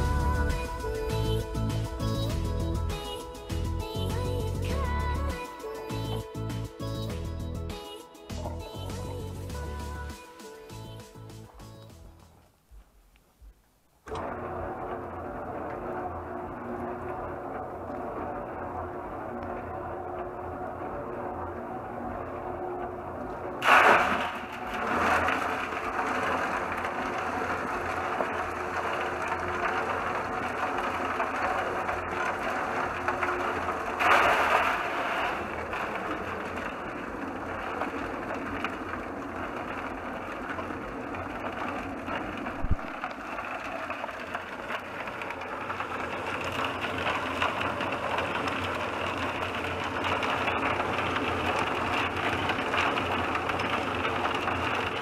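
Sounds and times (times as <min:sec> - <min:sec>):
cement mixer drum turning: 0:00.0 - 0:12.5, 0:14.1 - 0:55.0
concrete tumbling hiss: 0:00.0 - 0:13.6, 0:23.6 - 0:55.0.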